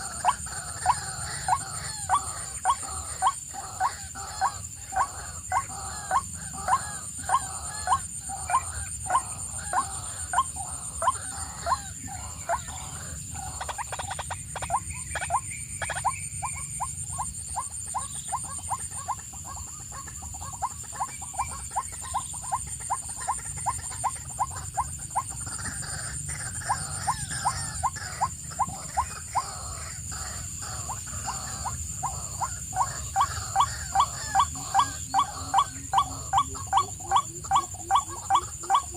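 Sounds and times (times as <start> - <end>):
steady high-pitched hum: 0.0 - 38.9.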